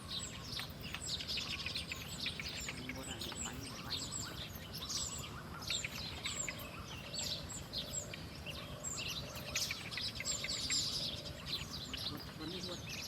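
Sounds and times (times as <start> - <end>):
low background noise: 0.0 - 13.0
songbirds chirping: 0.0 - 13.0.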